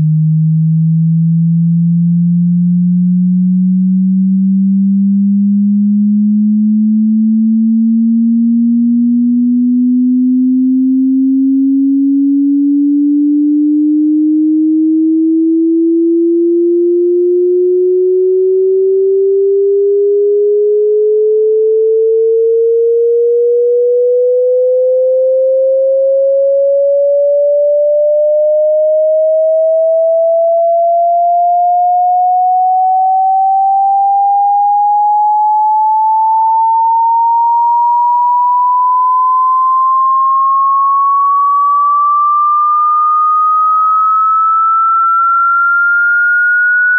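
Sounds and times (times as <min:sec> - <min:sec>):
sine tone sweeping upward: 0:00.0 - 0:46.9.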